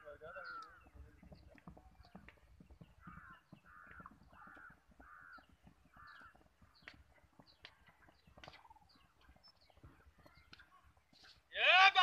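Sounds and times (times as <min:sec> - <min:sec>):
faint horse hoofbeats: 0:00.0 - 0:12.0
faint bird calls: 0:00.1 - 0:11.5.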